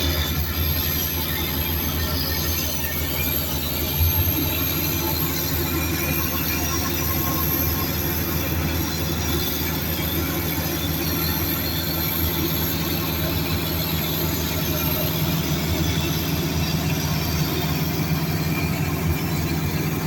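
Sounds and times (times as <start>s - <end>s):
heavy diesel machinery running: 0.0s - 20.0s.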